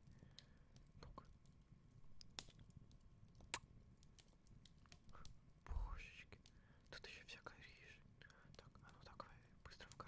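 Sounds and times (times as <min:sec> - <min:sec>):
fireplace crackling: 0:00.0 - 0:10.0.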